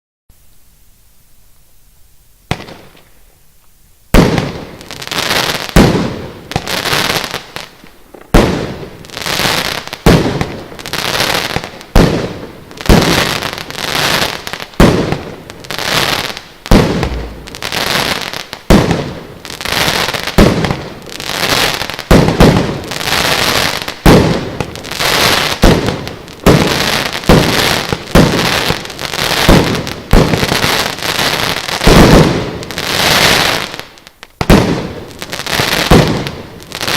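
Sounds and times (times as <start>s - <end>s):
fireworks crackling tail: 0.4s - 36.9s
fireworks shots bursting: 2.5s - 3.1s, 4.1s - 7.5s, 8.1s - 33.4s, 35.6s - 36.9s.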